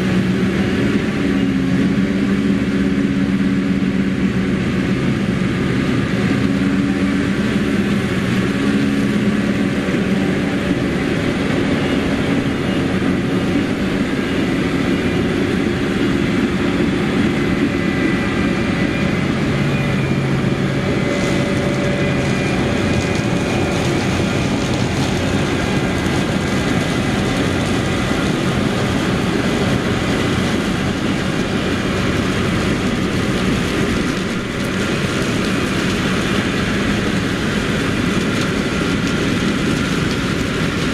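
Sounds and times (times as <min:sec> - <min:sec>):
diesel harvest machinery running: 0:00.0 - 0:40.9.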